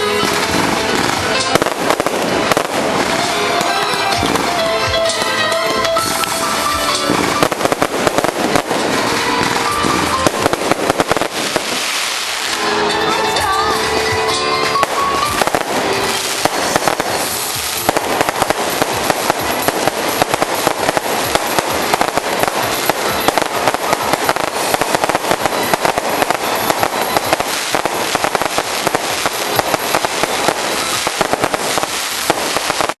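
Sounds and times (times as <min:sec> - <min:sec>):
fireworks crackling: 0:00.0 - 0:33.0.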